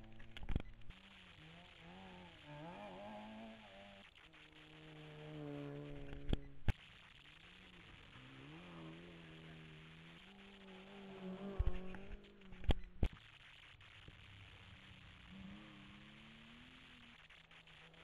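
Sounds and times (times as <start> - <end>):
rally car engine revving: 0.0 - 13.1, 14.2 - 18.0.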